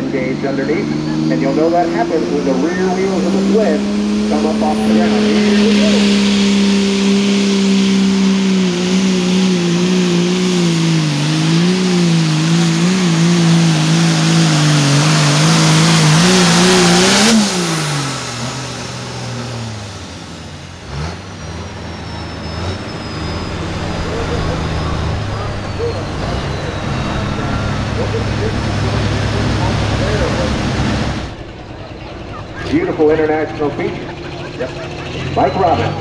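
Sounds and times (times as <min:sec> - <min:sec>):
tractor engine at full throttle: 0:00.0 - 0:36.0.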